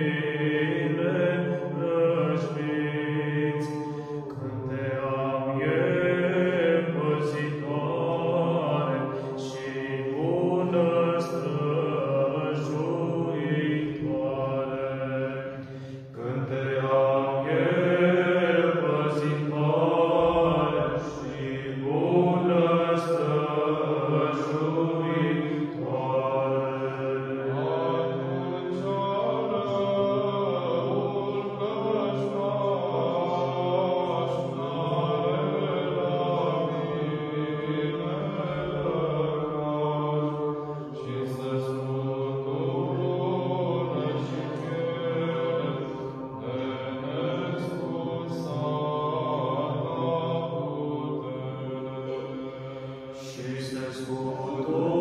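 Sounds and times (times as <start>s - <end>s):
low vocal drone: 0.0s - 55.0s
male choir chanting a hymn: 0.0s - 55.0s.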